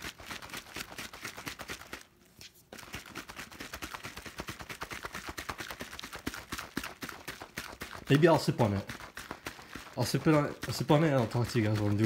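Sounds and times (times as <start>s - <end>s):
shaker bottle rattling: 0.0s - 2.1s, 2.7s - 12.0s.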